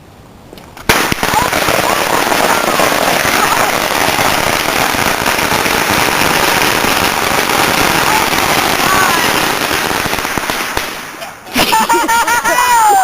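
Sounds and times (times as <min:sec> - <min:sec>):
firecrackers popping: 0:00.6 - 0:12.6.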